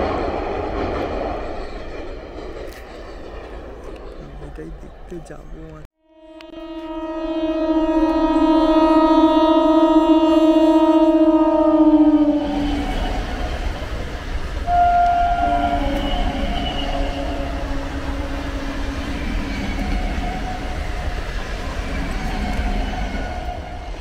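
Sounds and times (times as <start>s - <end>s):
train rumbling on rails: 0.0s - 5.9s, 6.9s - 24.0s.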